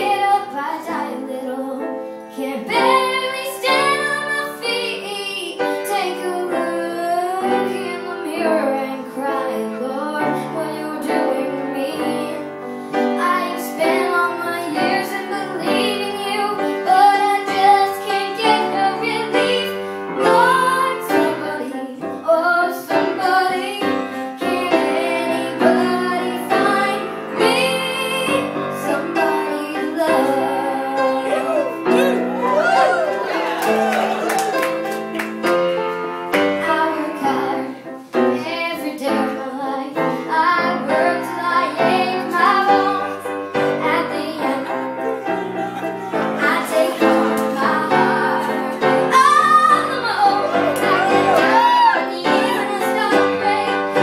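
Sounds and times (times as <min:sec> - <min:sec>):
girl singing: 0:00.0 - 0:33.0, 0:36.5 - 0:45.2, 0:46.3 - 0:54.0
piano accompaniment: 0:00.0 - 0:54.0.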